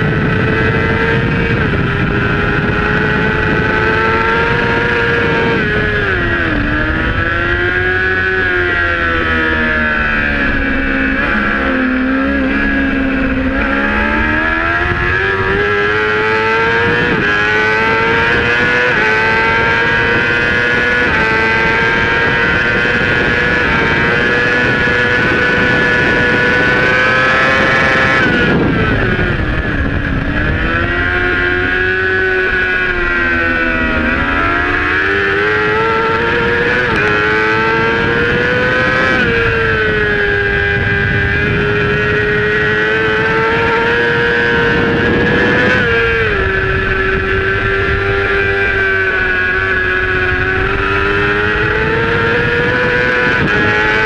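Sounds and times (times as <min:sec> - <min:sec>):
motorcycle engine revving high: 0:00.0 - 0:54.0
wind rushing: 0:00.0 - 0:54.0.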